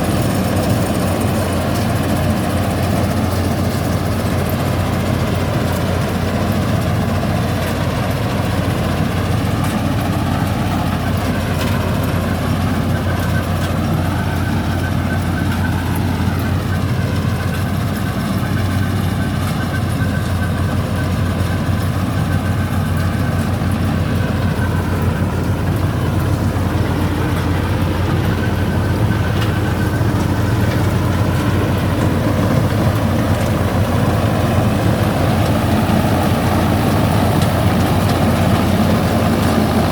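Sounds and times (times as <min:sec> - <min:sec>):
machinery noise: 0:00.0 - 0:39.9
tractor engine drone: 0:00.0 - 0:39.9.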